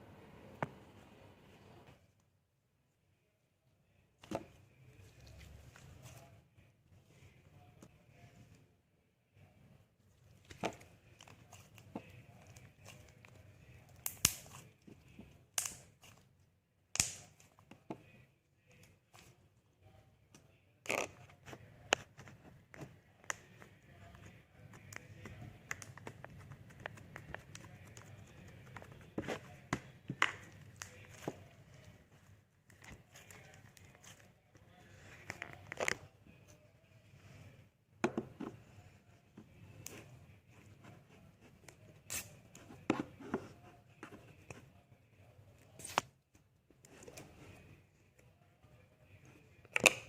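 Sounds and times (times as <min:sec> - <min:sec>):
low room background: 0:00.0 - 0:50.0.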